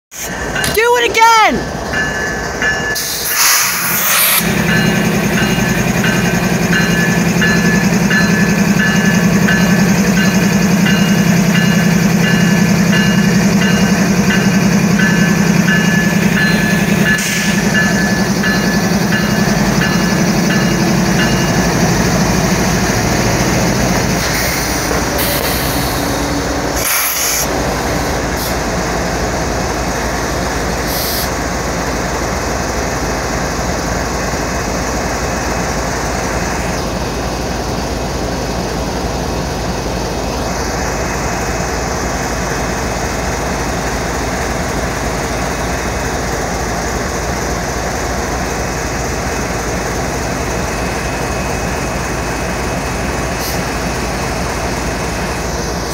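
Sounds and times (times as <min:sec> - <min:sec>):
diesel locomotive engine drone: 0:00.1 - 0:55.9
train noise: 0:00.1 - 0:55.9.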